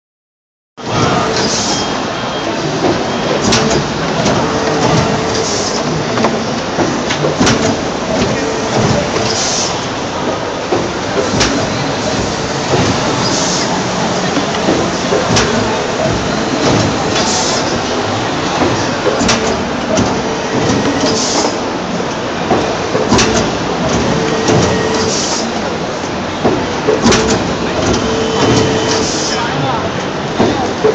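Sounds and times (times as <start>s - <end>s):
injection molding machine running: 0.8s - 30.9s
machine clicks and knocks: 2.6s - 29.4s, 30.0s - 30.9s.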